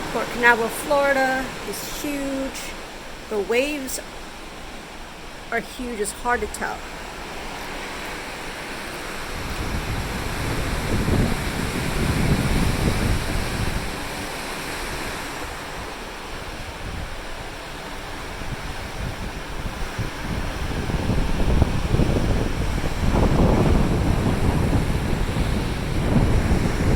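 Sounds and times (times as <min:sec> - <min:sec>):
ocean waves washing: 0:00.0 - 0:26.9
wind buffeting microphone: 0:00.0 - 0:26.9.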